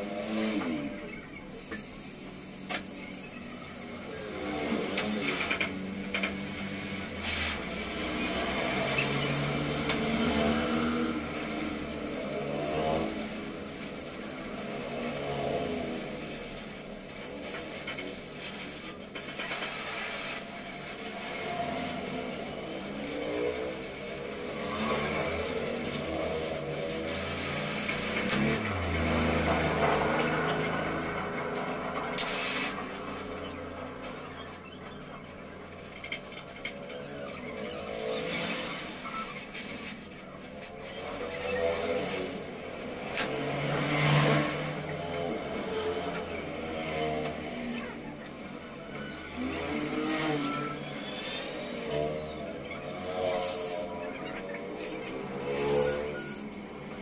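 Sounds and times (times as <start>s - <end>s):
motorcycles passing: 0.0s - 57.0s.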